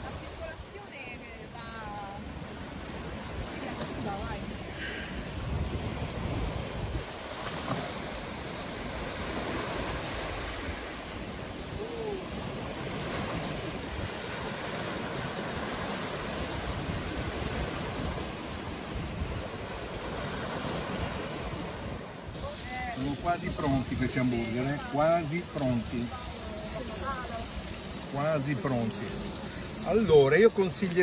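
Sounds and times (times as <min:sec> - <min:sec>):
small waves breaking on shore: 0:00.0 - 0:31.0
wind rumbling on microphone: 0:00.0 - 0:31.0.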